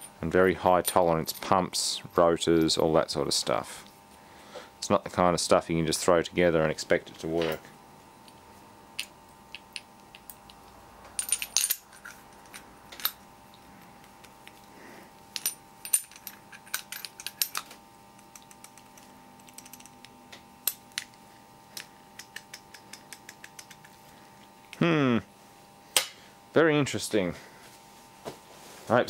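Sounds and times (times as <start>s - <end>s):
faint hum: 0.0s - 29.0s.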